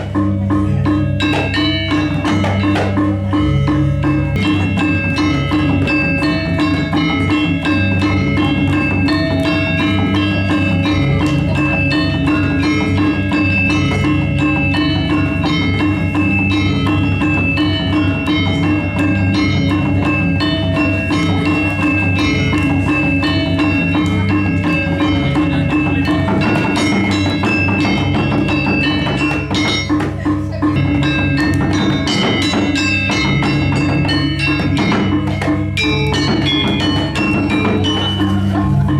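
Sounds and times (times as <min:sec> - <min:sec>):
gamelan playing: 0:00.0 - 0:38.9.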